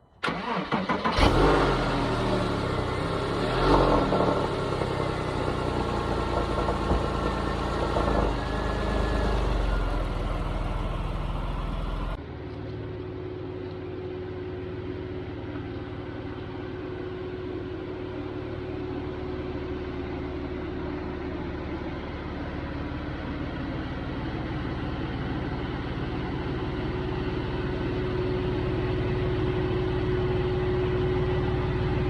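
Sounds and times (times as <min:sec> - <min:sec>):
car engine revving and idling: 0:00.2 - 0:32.0.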